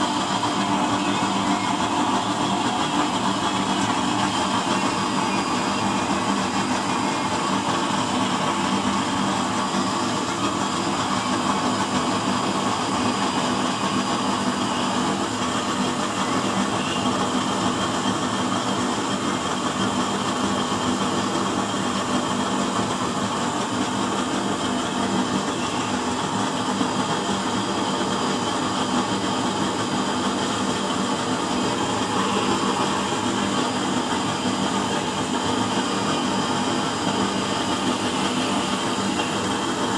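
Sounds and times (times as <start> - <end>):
oil burner stove hum and rush: 0.0 - 39.9.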